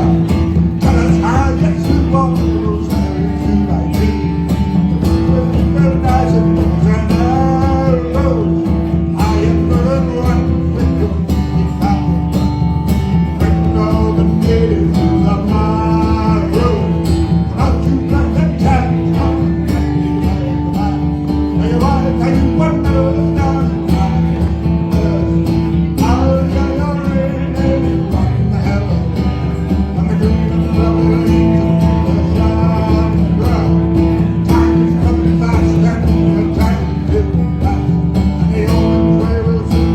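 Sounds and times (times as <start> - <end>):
acoustic folk band playing: 0.0 - 39.9
person singing: 0.0 - 39.9.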